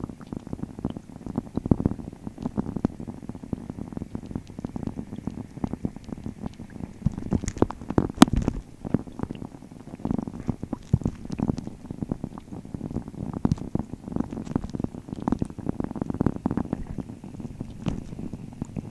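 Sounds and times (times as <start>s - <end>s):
rain heard underwater: 0.0s - 18.9s.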